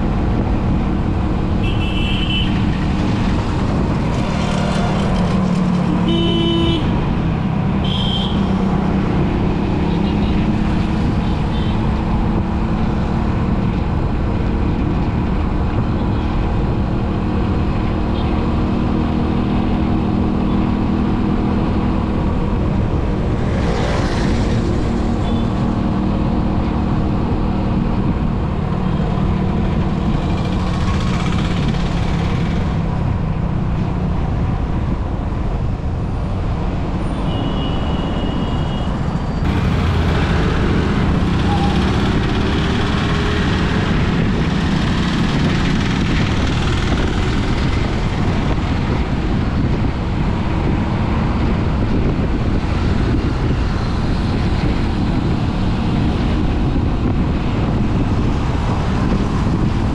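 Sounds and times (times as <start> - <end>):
surrounding traffic: 0.0 - 59.9
vehicle road rumble: 0.0 - 59.9.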